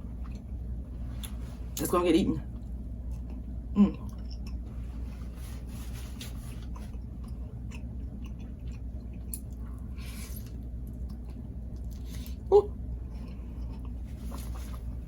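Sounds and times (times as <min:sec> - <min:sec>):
chewing food: 0:00.0 - 0:01.4, 0:02.6 - 0:05.2, 0:06.1 - 0:15.0
low steady hum: 0:00.0 - 0:15.0.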